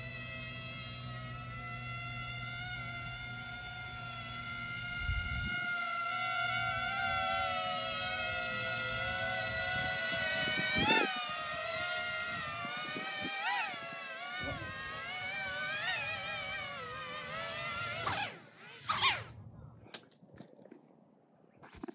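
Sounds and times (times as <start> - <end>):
electric motor and propeller whine: 0.0 - 19.8.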